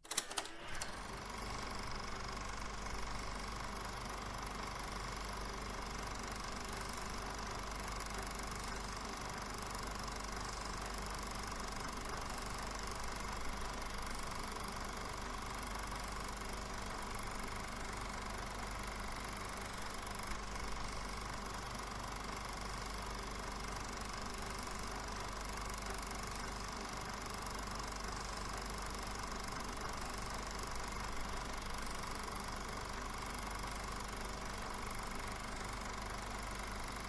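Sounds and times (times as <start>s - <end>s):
film projector running: 0.0s - 37.0s.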